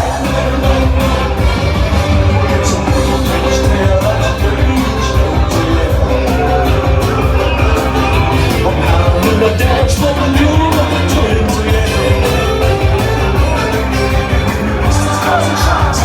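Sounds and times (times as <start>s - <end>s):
live rock band: 0.0s - 16.0s
person singing: 0.0s - 16.0s.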